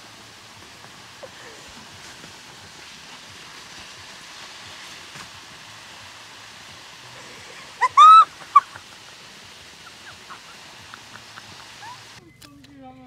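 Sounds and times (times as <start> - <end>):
water spraying hiss: 0.0 - 12.2.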